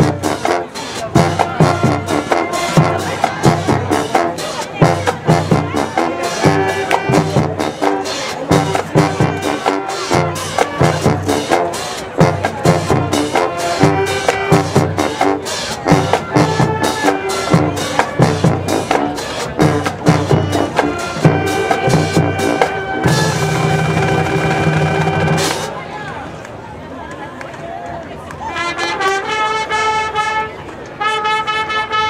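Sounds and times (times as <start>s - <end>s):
brass sustained chords: 0.0s - 25.7s
drumline beating: 0.0s - 25.8s.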